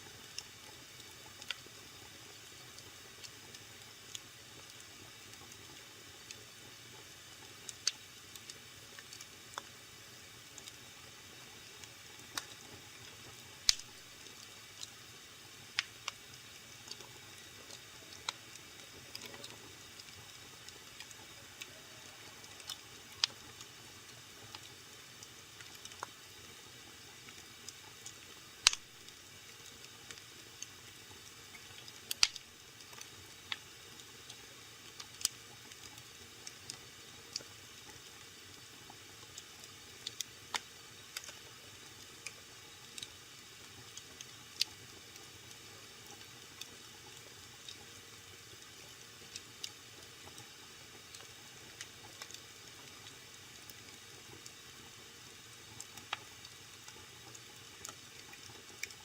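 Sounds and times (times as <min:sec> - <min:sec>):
faint steady hiss: 0:00.0 - 0:59.0
wood fire crackling and popping: 0:00.3 - 0:55.0, 0:55.7 - 0:59.0.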